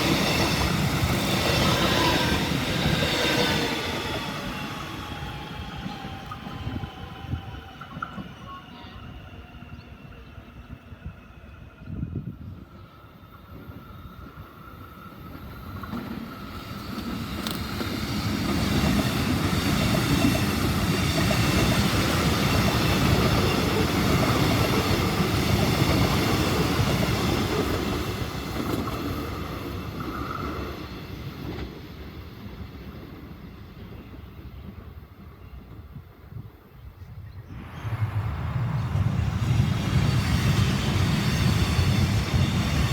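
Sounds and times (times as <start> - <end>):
train wheels rumbling: 0.0 - 36.5, 37.5 - 42.9.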